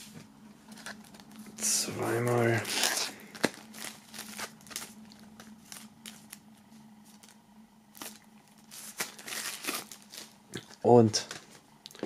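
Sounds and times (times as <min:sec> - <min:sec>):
plastic film crinkling: 0:00.7 - 0:12.0.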